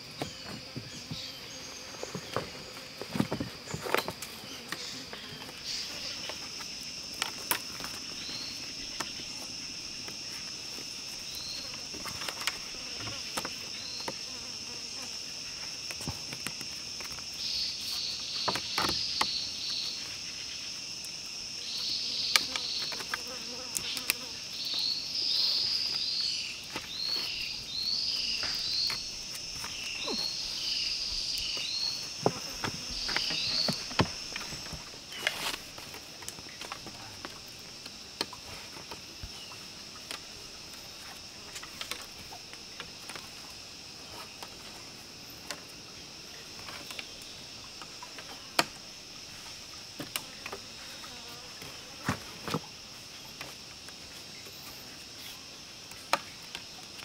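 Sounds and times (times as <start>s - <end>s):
insect chorus drone: 0.0s - 57.0s.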